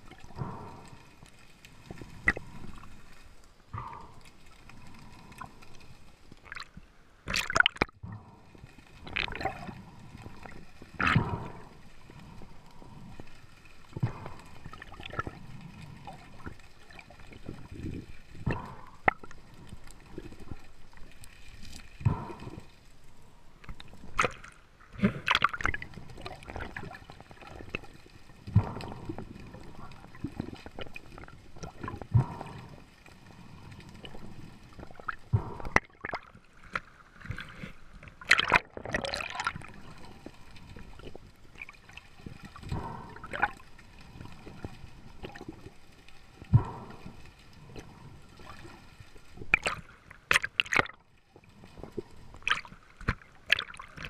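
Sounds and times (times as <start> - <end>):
water sloshing and gurgling: 0.0 - 54.0
water splashes: 0.0 - 54.0.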